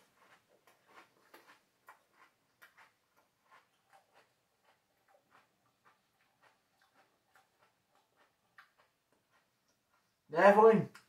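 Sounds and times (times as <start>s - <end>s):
chewing cereal crunches: 0.0s - 10.2s.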